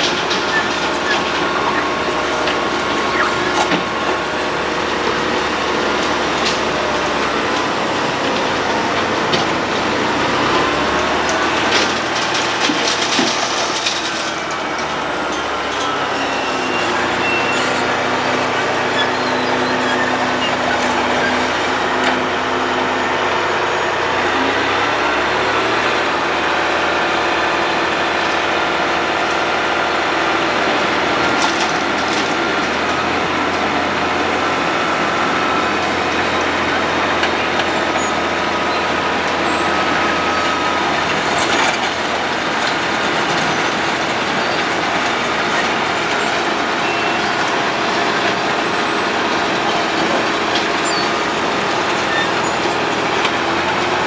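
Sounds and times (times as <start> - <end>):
heavy diesel engine running: 0.0 - 54.0
machine grinding road surface: 0.0 - 54.0.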